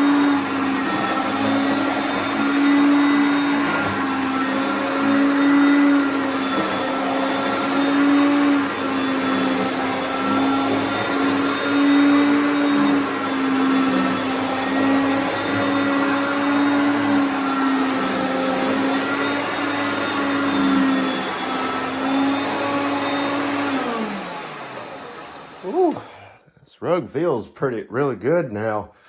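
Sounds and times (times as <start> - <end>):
upright vacuum cleaner running: 0.0 - 26.4.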